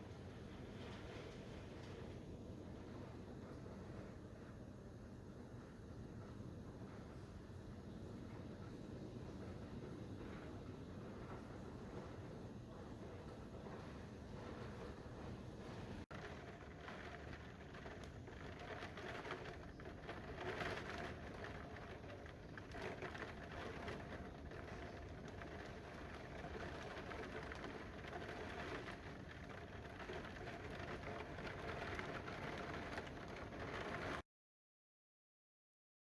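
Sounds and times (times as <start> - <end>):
steady rain falling: 0.0 - 4.1, 8.2 - 34.2.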